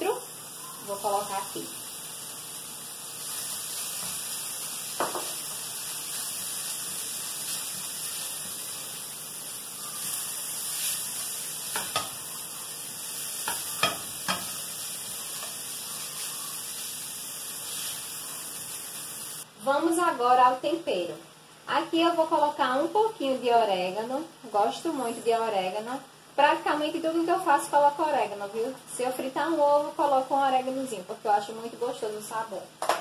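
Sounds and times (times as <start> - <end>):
sausage sizzling in a frying pan: 0.0 - 32.5.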